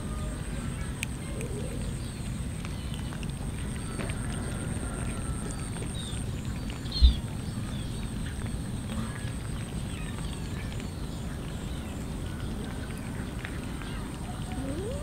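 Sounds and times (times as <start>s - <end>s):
cats chewing and smacking: 0.0s - 15.0s.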